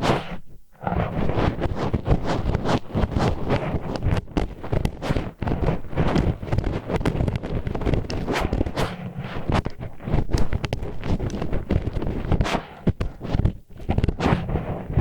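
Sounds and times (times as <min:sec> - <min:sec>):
chopsticks scraping microphone: 0:00.0 - 0:15.0.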